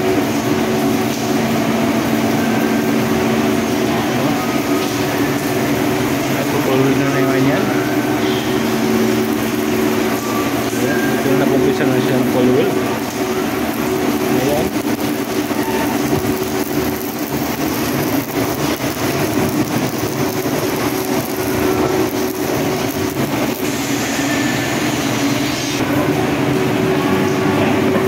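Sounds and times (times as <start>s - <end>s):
steady hum: 0.0s - 28.0s
welding arc crackling and sizzling: 0.0s - 28.0s.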